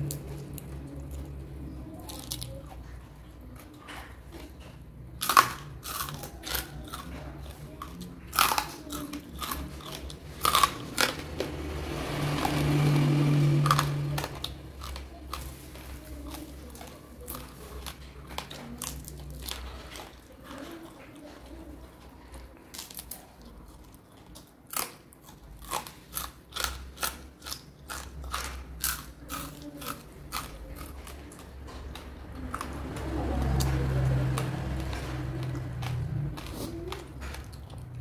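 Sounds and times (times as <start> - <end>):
chewing crunchy food: 0.0 - 38.0.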